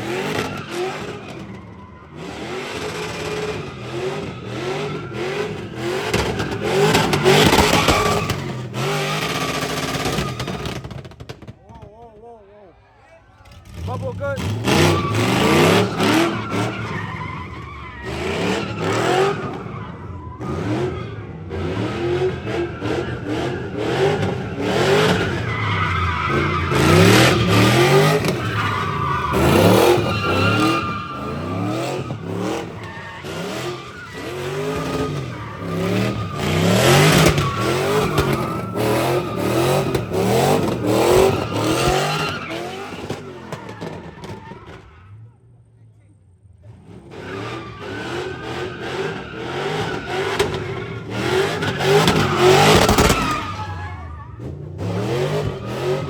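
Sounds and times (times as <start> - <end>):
tyres squealing: 0.0 - 10.9, 12.8 - 21.2, 22.5 - 45.1, 47.2 - 56.0
car engine revving: 0.0 - 11.4, 13.4 - 44.7, 46.6 - 56.0.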